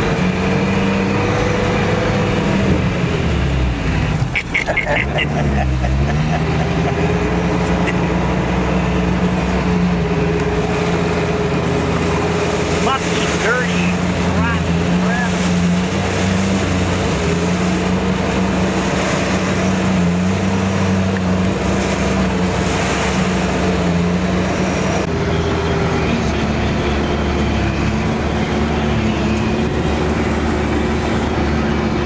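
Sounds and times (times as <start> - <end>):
diesel engine drone: 0.0 - 32.0.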